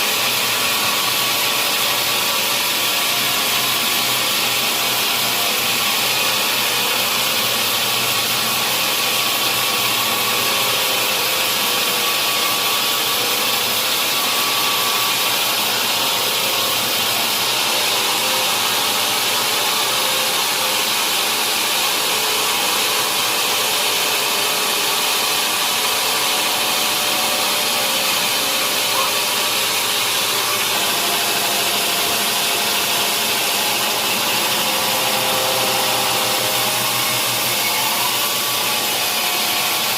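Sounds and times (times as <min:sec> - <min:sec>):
saw blade cutting through log: 0:00.0 - 0:39.9.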